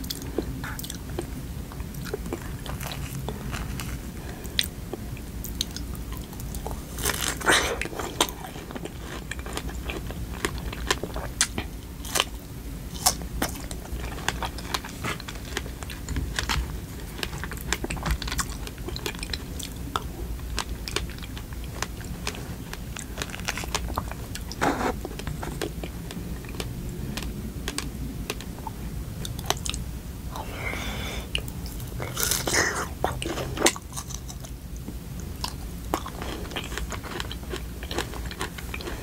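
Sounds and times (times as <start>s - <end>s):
chewing strawberries: 0.0s - 39.0s.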